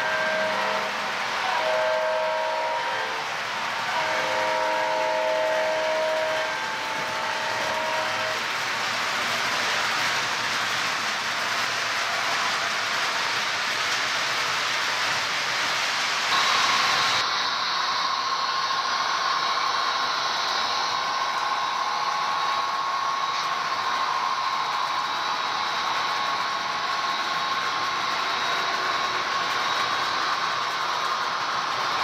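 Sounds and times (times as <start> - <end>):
model train whirring hiss: 0.0 - 32.0
steady whine: 0.0 - 32.0.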